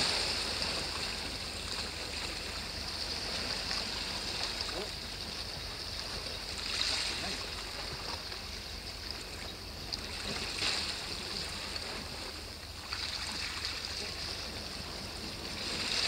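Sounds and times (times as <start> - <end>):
sea waves on rocky shore: 0.0 - 16.0.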